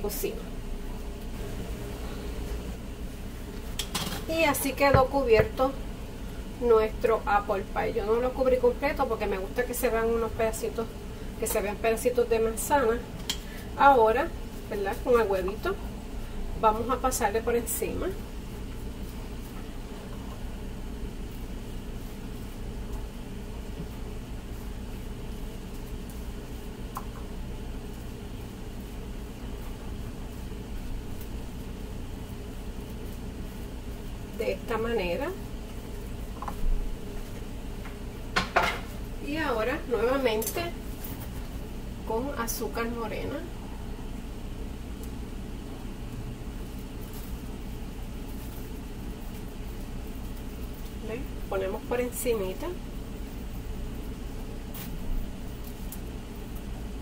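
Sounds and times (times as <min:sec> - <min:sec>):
machine hum with hiss: 0:00.0 - 0:07.3, 0:08.0 - 0:57.0.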